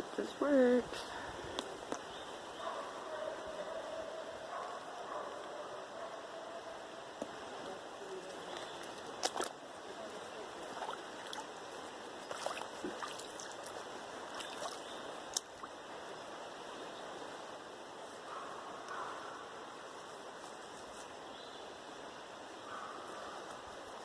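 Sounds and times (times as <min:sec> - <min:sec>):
river flowing: 0:00.0 - 0:24.0.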